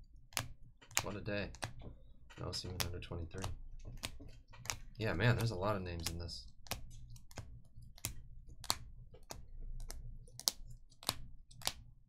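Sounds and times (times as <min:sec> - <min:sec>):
plastic card holders clicking: 0:00.3 - 0:11.8.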